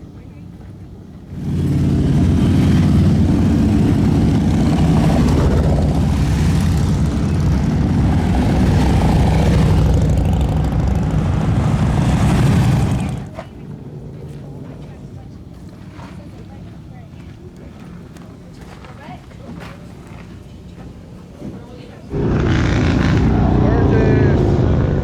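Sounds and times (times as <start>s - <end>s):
motorcycle engines rumbling: 0.0s - 25.0s.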